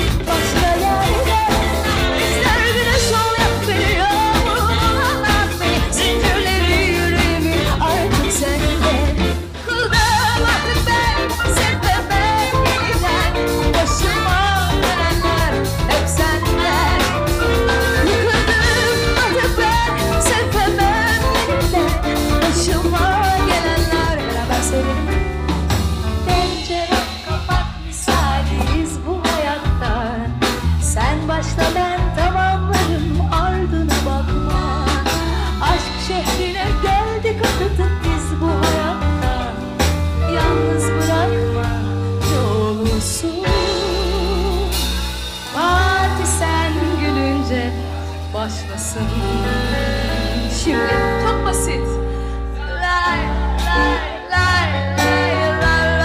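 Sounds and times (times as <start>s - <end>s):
woman singing: 0.0s - 25.6s, 26.2s - 56.0s
bass guitar: 0.0s - 56.0s
drums: 0.0s - 56.0s.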